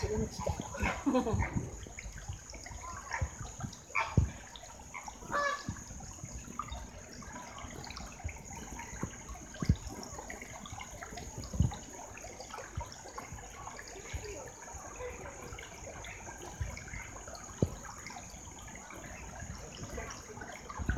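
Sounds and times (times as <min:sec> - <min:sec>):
stream trickling over stones: 0:00.0 - 0:20.9.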